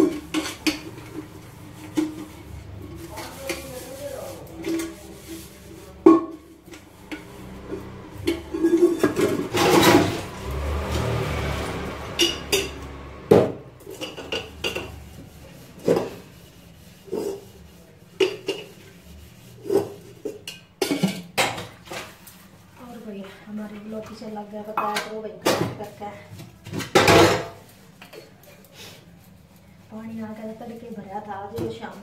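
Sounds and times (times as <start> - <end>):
metal pots and utensils clanking: 0.0 - 22.3, 24.7 - 28.7.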